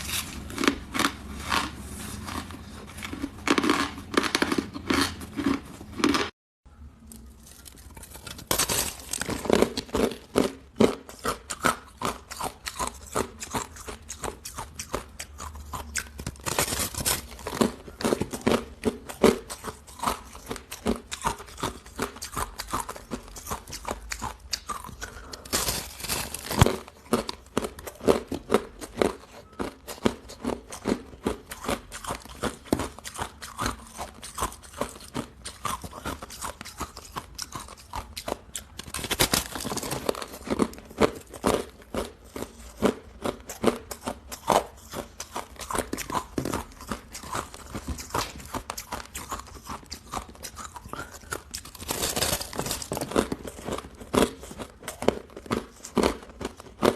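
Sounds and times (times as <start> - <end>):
ice being chewed: 0.0 - 6.3, 7.1 - 56.9.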